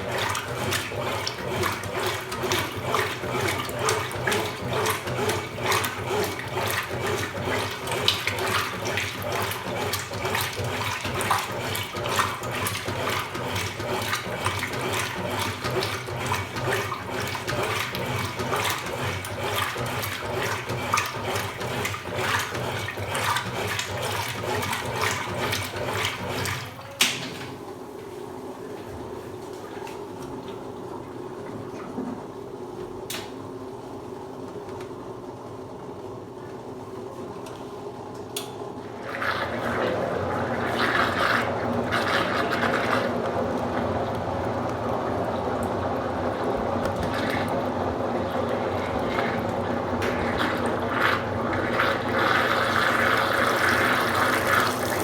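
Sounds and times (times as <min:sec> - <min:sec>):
washing machine hum: 0:00.0 - 0:55.0
water rushing in washing machine: 0:00.0 - 0:55.0.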